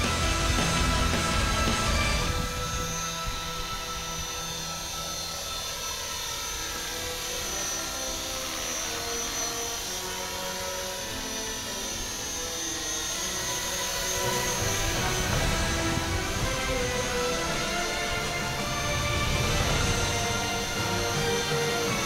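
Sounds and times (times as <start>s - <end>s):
electric motor whine: 0.0s - 22.0s
rotor blades whirring: 0.0s - 22.0s.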